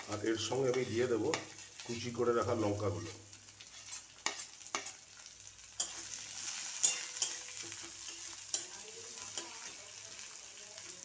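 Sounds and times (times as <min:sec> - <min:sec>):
metal spatula scraping pan: 0:00.0 - 0:05.0, 0:05.8 - 0:09.9
vegetables sizzling in hot oil: 0:00.0 - 0:11.0.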